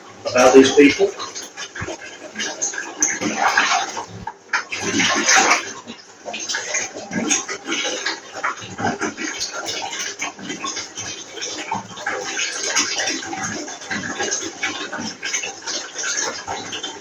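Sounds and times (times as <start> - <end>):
water running into a bath: 0.0 - 17.0.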